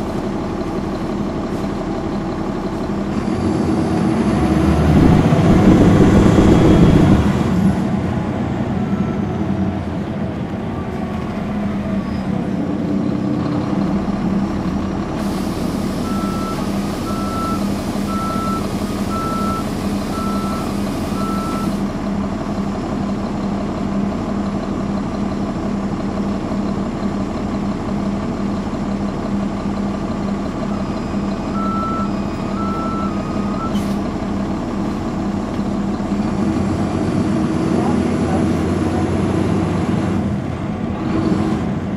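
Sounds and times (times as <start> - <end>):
bus diesel engine running: 0.0 - 41.9.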